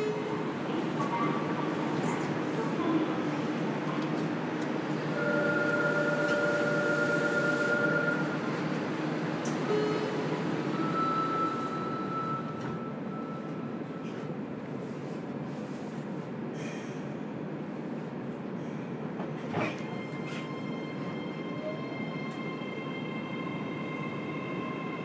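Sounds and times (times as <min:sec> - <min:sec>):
train wheel and running noise: 0:00.0 - 0:25.0.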